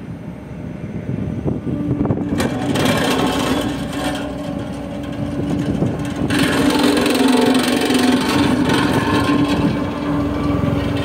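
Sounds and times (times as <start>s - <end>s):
roller compactor diesel engine: 0.0s - 11.0s
steady hum: 0.0s - 11.0s.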